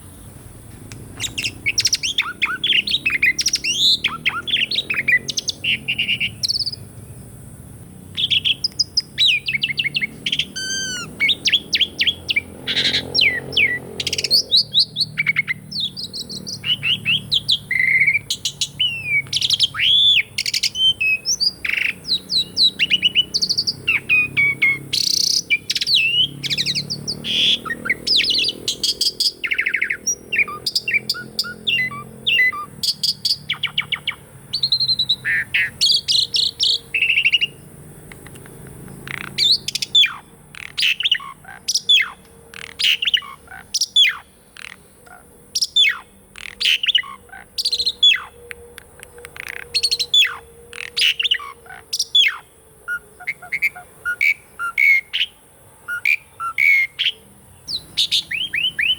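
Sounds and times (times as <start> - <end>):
starling singing whistled song: 1.1 - 6.9, 8.1 - 58.9.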